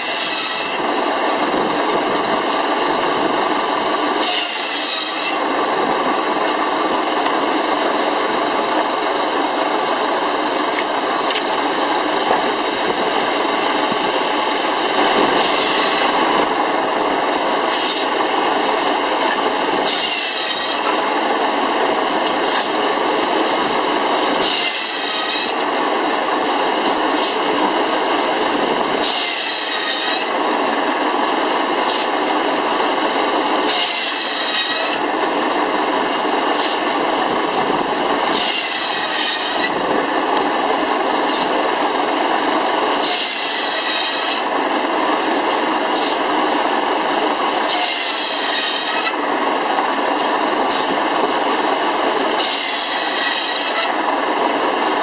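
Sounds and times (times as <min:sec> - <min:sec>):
saw rasping through wood: 0:00.0 - 0:54.4
circular saw running: 0:00.0 - 0:55.0.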